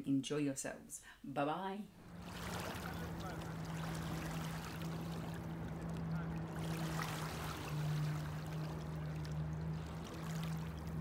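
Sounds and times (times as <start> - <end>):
low steady hum: 1.8 - 11.0
water lapping over pebbles: 2.0 - 11.0.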